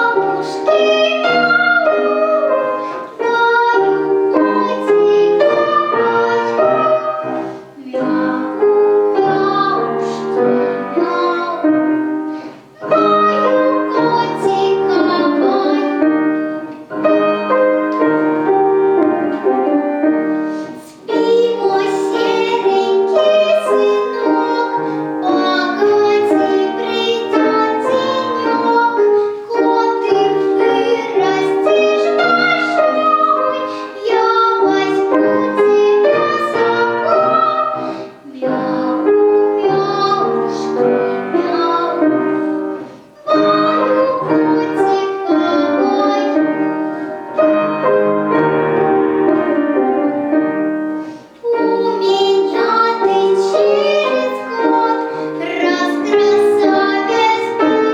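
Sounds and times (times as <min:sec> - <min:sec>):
girl singing: 0:00.0 - 0:57.9
piano accompaniment: 0:00.0 - 0:57.9.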